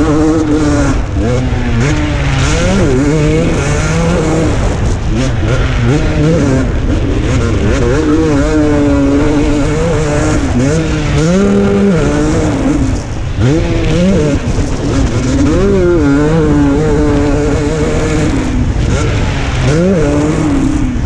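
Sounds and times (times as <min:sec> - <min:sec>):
motocross engine revving: 0:00.0 - 0:21.0.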